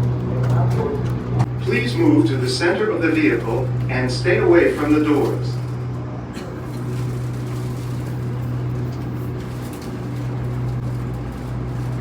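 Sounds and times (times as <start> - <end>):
tram low hum: 0.0 - 12.0
tram rolling noise: 0.0 - 12.0.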